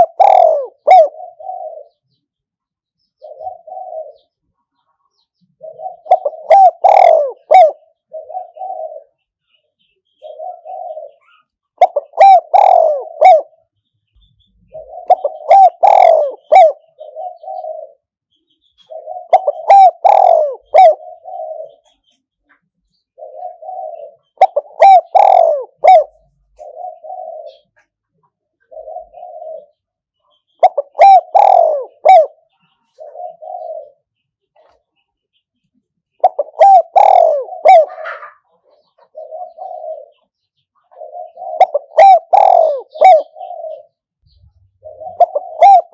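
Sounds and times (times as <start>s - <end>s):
dove cooing: 0.0s - 2.1s, 3.2s - 4.4s, 5.0s - 9.6s, 10.2s - 18.2s, 18.8s - 22.1s, 22.9s - 34.9s, 36.2s - 45.9s.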